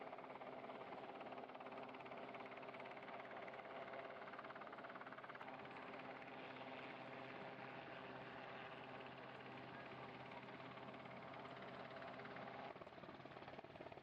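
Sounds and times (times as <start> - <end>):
helicopter engine drone: 0.0 - 14.0
helicopter rotor chopping: 0.0 - 14.0.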